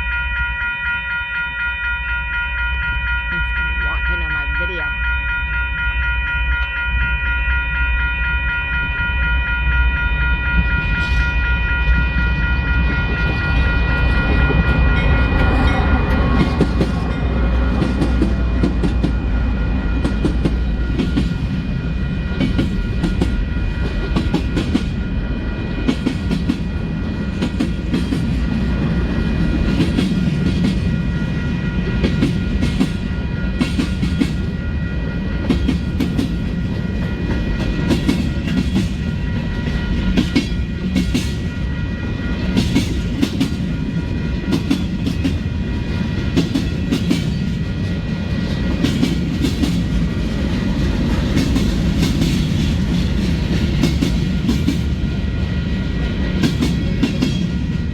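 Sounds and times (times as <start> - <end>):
high ringing tones: 0.0 - 48.3
deep train rumble: 0.0 - 57.9.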